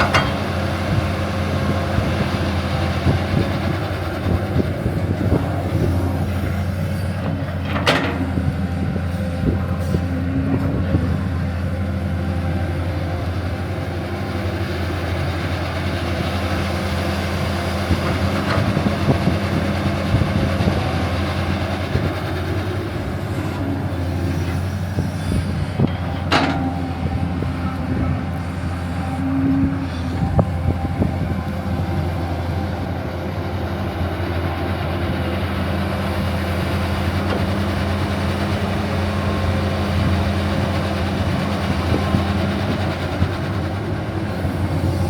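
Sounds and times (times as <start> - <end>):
machine drone with rattle: 0.0 - 45.0.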